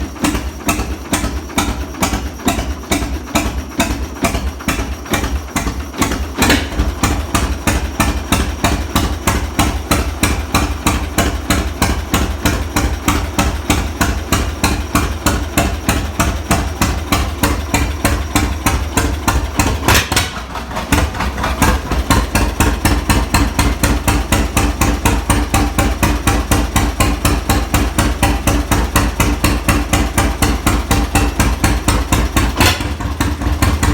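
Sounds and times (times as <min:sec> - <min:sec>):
tractor engine popping exhaust: 0:00.0 - 0:33.9.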